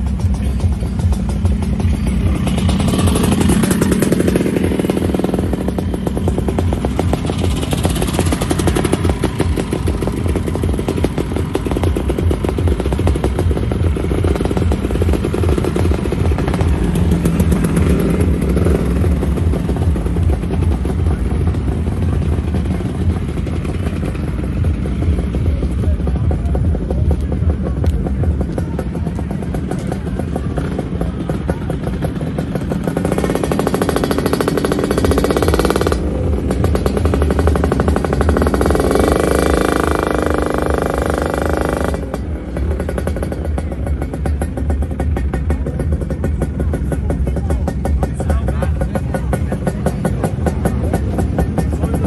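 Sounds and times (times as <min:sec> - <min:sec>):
motor scooter engines: 0:00.0 - 0:52.0.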